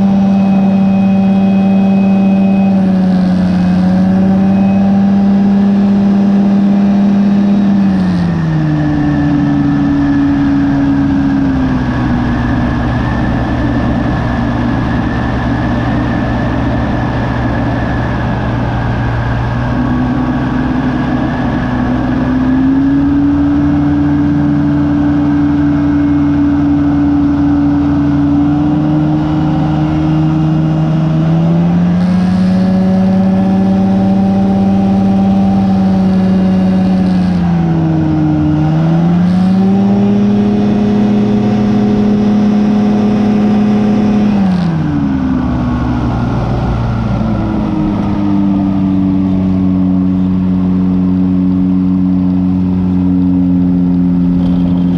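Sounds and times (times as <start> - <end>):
ultralight aircraft engine running: 0.0 - 54.9.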